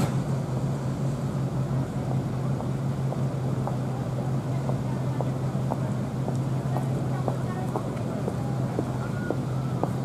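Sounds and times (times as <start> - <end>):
cars idling in traffic: 0.0 - 10.0.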